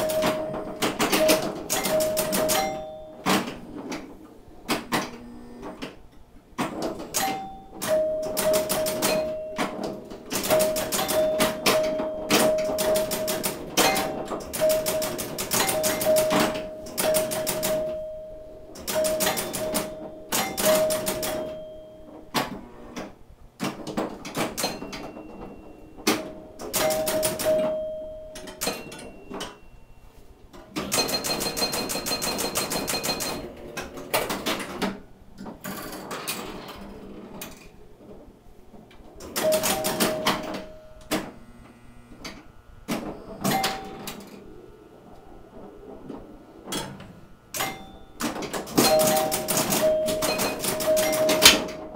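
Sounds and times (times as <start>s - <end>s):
pinball scoring chimes ringing: 0.0s - 6.0s, 6.6s - 38.2s, 39.0s - 41.5s, 42.2s - 51.9s
pinball relays and score reels clacking: 0.0s - 51.9s.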